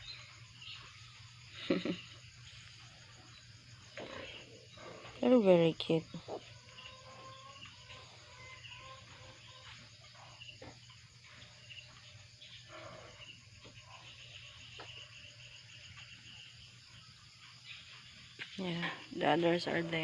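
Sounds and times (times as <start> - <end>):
faint high chirping: 0.0 - 20.0.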